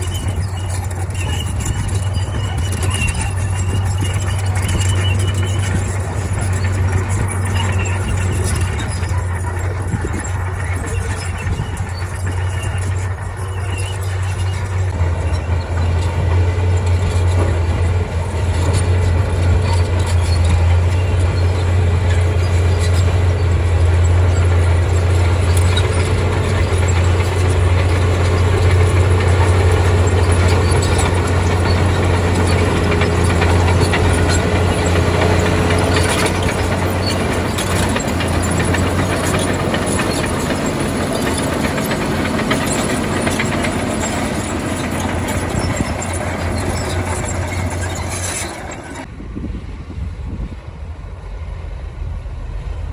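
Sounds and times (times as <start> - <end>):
bulldozer diesel engine droning: 0.0 - 52.9.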